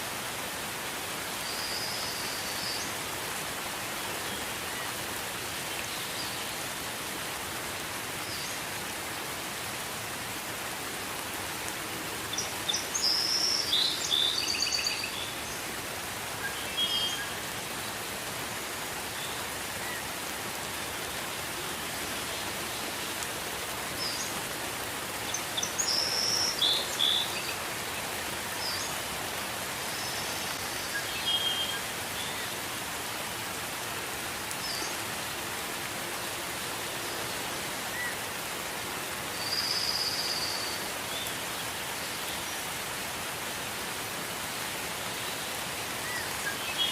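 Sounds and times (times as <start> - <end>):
steady gentle rain: 0.0 - 46.9.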